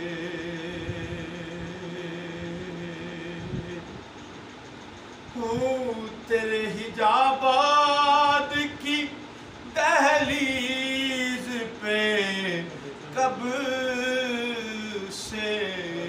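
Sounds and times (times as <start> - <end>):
man singing unaccompanied: 0.0 - 4.0, 5.3 - 16.0.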